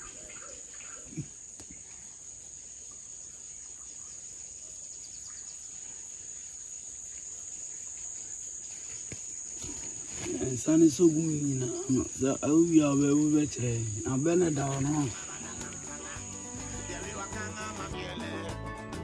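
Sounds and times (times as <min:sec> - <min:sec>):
insects chirring: 0:00.0 - 0:18.4.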